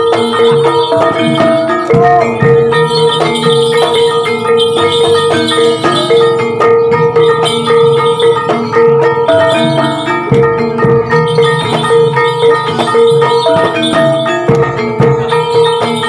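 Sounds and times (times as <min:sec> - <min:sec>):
hand drums: 0:00.0 - 0:16.0
long held melody tone: 0:00.0 - 0:16.0
struck metallophones: 0:00.0 - 0:16.0.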